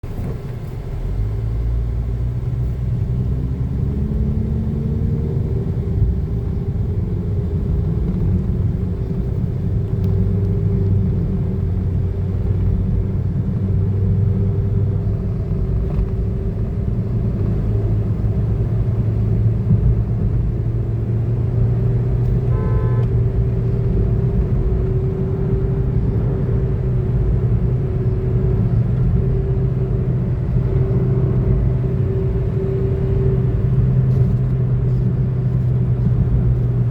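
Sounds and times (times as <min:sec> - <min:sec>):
car engine accelerating: 0:00.0 - 0:36.9
road noise rumble: 0:00.0 - 0:36.9.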